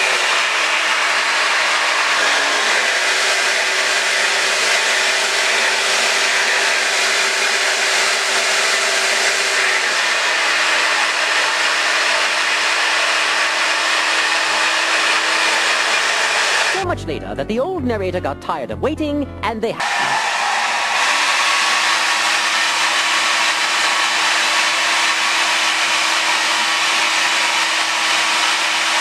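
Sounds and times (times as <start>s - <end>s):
hair dryer running: 0.0s - 16.8s, 19.8s - 29.0s.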